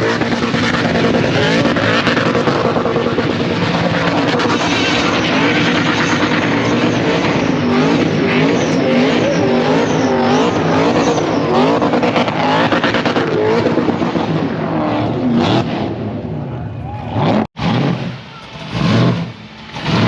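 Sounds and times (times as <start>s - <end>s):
engine revving hard: 0.0s - 16.2s, 17.1s - 20.0s.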